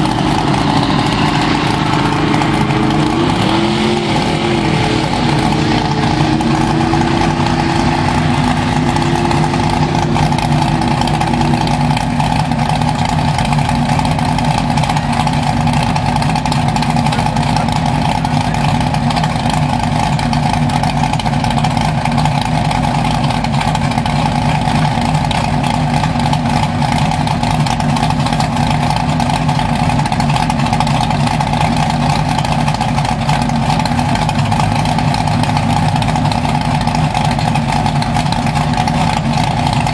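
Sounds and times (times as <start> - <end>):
second engine wavering: 0.0 - 39.9
truck engine idling: 0.0 - 39.9.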